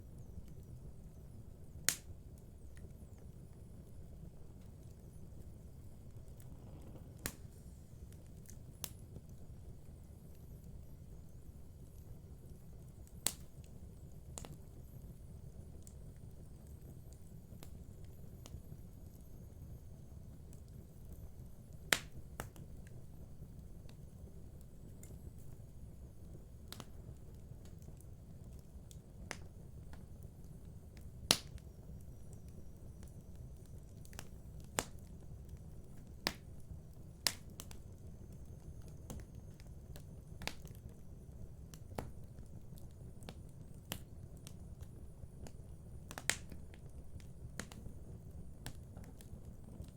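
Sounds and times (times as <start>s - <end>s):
fire crackling and popping: 0.0s - 49.9s
low rumble of fire: 0.0s - 49.9s.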